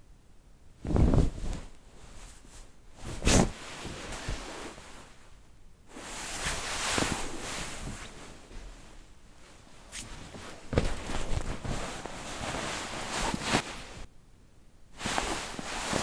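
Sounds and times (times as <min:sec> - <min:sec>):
bed sheet swish: 0:00.8 - 0:05.2, 0:05.9 - 0:14.1, 0:15.0 - 0:16.0
fabric rustling and sliding: 0:00.8 - 0:14.1, 0:15.0 - 0:16.0.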